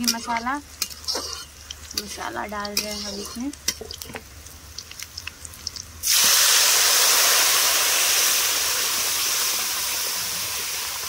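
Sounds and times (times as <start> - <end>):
loud sizzle in hot oil: 0.0 - 11.0.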